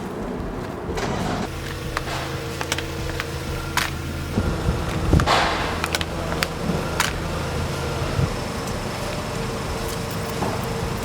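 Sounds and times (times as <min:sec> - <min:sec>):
loud plastic crunch: 0:00.0 - 0:11.0
car engine running: 0:00.2 - 0:11.0.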